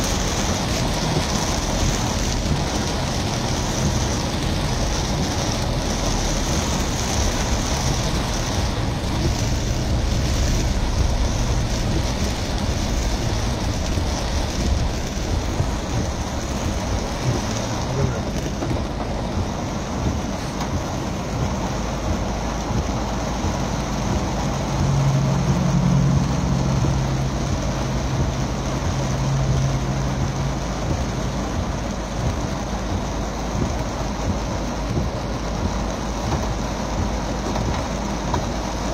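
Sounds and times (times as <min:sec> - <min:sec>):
heavy rain on car roof: 0:00.0 - 0:38.9
tyres on wet road: 0:00.0 - 0:38.9.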